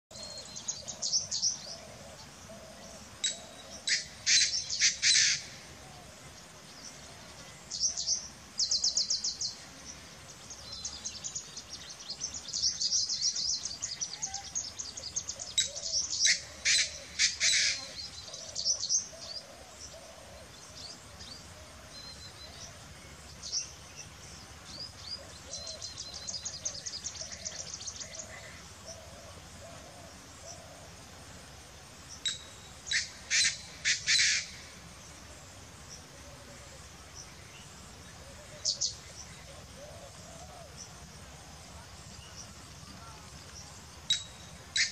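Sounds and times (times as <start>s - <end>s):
small birds twittering: 0.1s - 31.2s, 32.0s - 44.9s.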